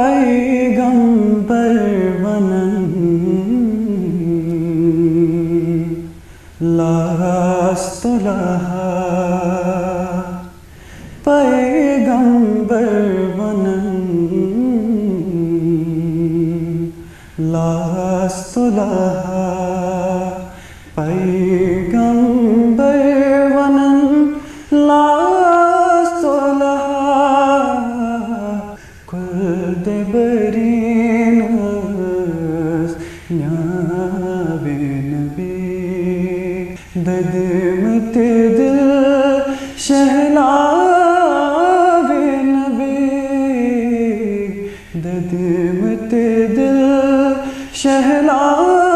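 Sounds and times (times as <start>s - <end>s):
young man singing devotional song: 0.0s - 48.9s.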